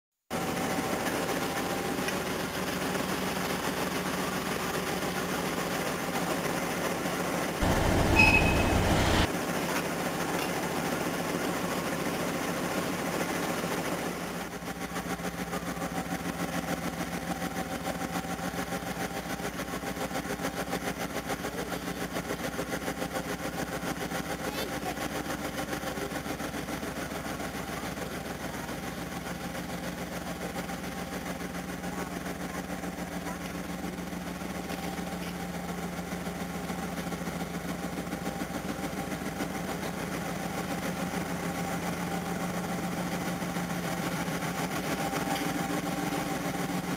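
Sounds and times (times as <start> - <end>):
model diesel locomotive idling: 0.3 - 46.9.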